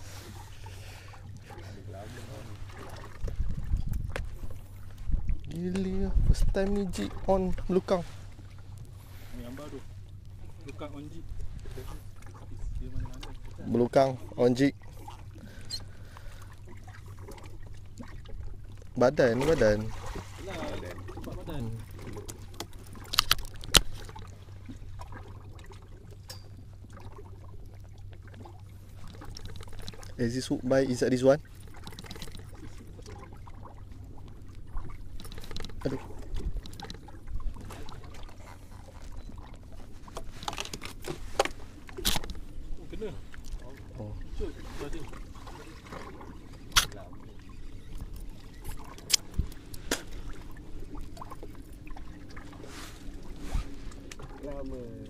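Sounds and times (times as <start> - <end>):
rumble of water and wind: 0.0 - 55.0
steady low hum: 0.0 - 55.0.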